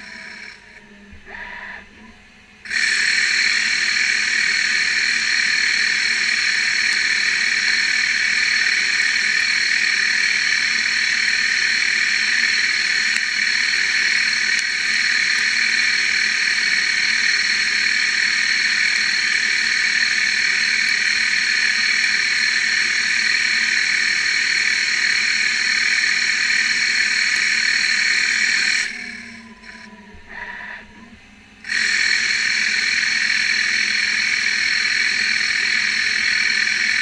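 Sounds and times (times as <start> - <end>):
lathe machining hiss: 0.0 - 0.6, 2.6 - 31.0, 31.6 - 37.0
steady machine tones: 0.0 - 37.0.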